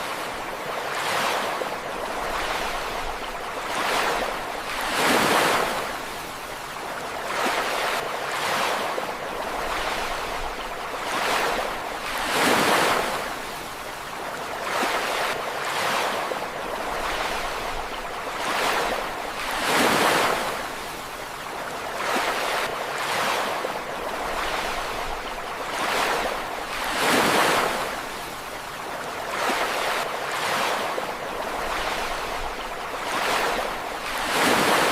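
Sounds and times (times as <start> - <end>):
ocean waves crashing: 0.0 - 34.9.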